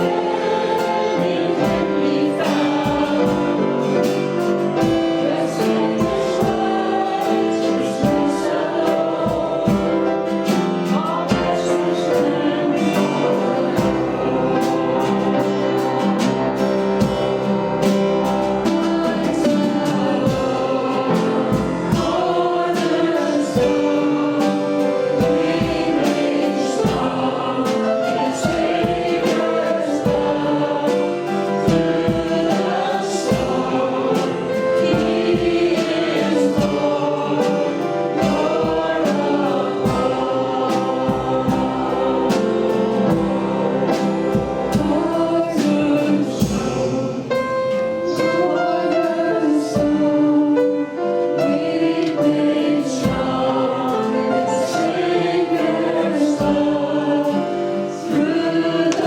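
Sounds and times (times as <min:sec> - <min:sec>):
choir singing gospel song: 0:00.0 - 0:59.0
instrumental backing with beat: 0:00.0 - 0:59.0.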